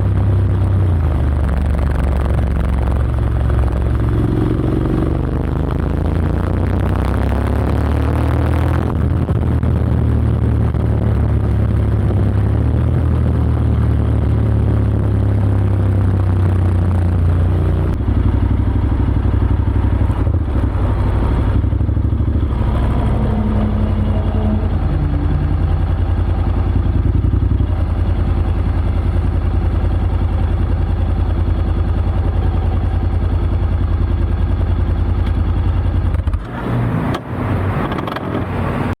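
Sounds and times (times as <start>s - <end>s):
motorcycle engine exhaust note: 0.0s - 36.5s.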